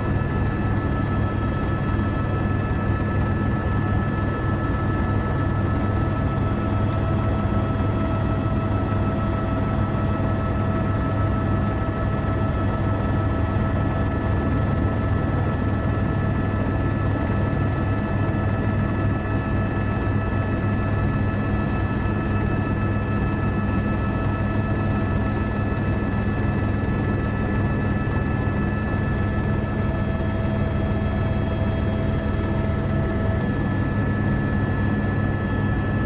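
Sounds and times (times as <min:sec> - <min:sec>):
aircraft engine drone in cabin: 0:00.0 - 0:36.0.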